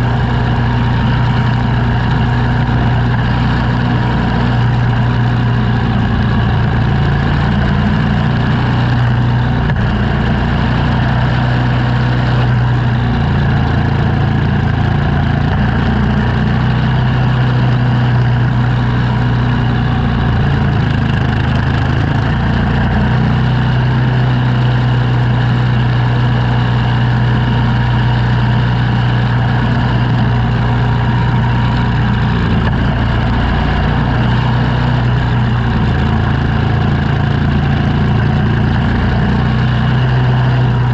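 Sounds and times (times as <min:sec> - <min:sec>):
engine humming: 0:00.0 - 0:40.9.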